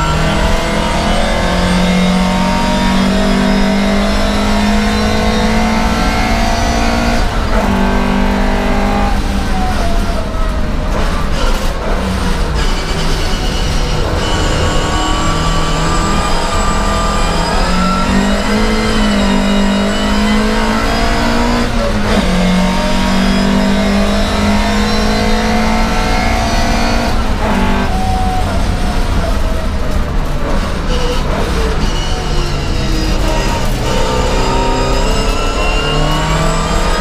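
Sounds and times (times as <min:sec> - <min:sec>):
racing car engine revving: 0:00.0 - 0:37.0.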